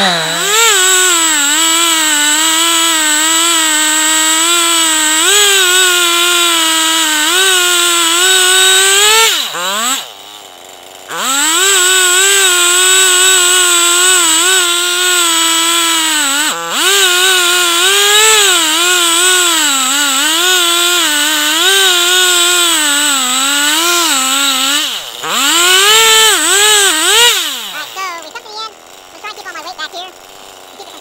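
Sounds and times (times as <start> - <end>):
chainsaw cutting through log: 0.0 - 31.0.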